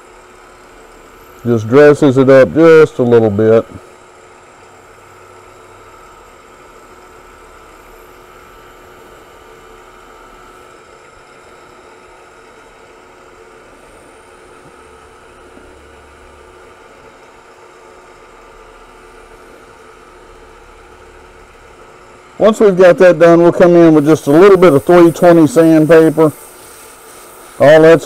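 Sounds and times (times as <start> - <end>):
wood lathe motor hum: 0.0 - 28.0
wire burning against spinning wood: 3.0 - 22.6, 23.3 - 28.0.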